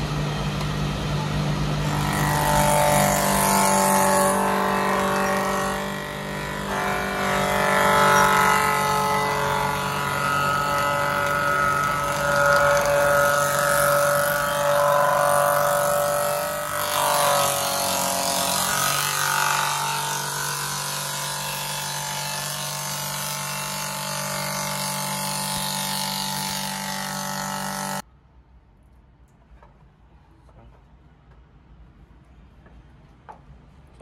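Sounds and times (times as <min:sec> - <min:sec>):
electric cutting machine on wood: 0:00.0 - 0:28.0.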